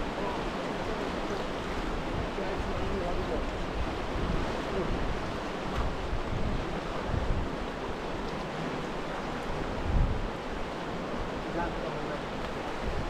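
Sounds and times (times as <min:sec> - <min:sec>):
river rushing over rocks: 0:00.0 - 0:13.0
wind rumble on microphone: 0:00.0 - 0:13.0.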